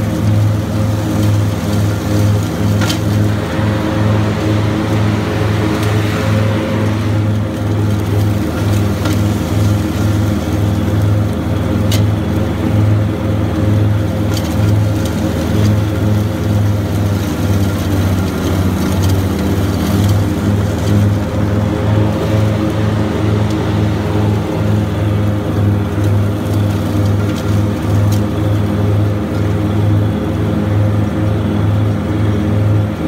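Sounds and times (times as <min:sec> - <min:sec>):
mower diesel engine running: 0:00.0 - 0:33.0.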